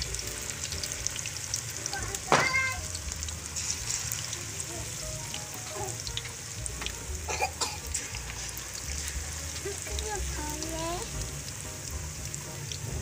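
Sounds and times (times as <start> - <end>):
hot oil sizzling in a pot: 0.0 - 13.0.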